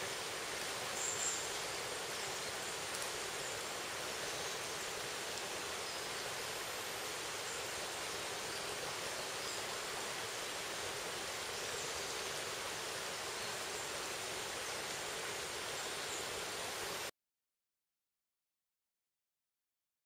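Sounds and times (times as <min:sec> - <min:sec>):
forest ambience hiss: 0:00.0 - 0:17.1.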